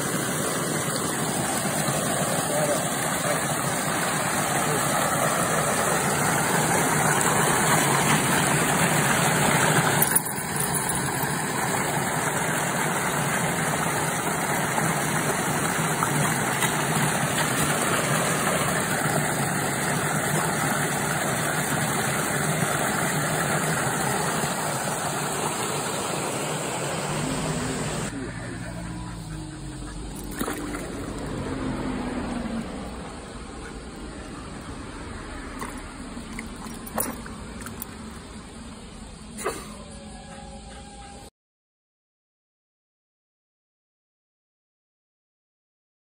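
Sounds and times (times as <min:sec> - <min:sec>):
water rushing in concrete channel: 0:00.0 - 0:39.6.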